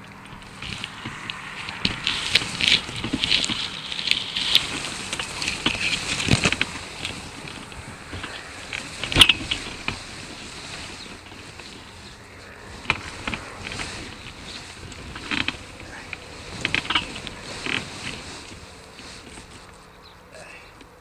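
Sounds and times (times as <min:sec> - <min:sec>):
scattered clicks: 0:00.0 - 0:19.8
grass rustling against camera: 0:00.0 - 0:21.0.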